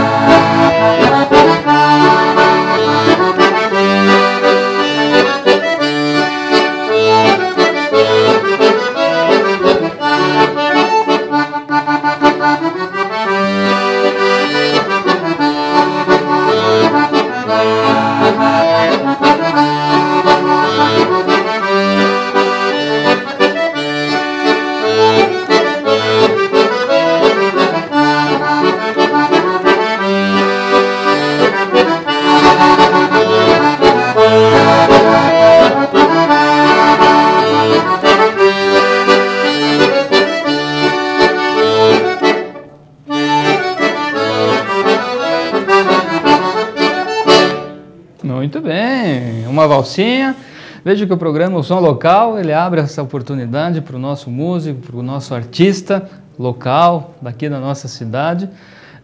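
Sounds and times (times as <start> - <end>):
accordion waltz: 0.0 - 59.0.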